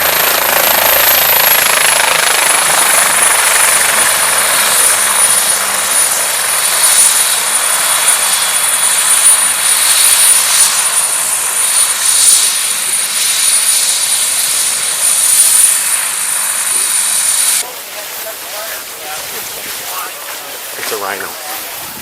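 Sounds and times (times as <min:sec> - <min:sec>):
helicopter rushing noise: 0:00.0 - 0:22.0
high turbine whine: 0:00.0 - 0:22.0.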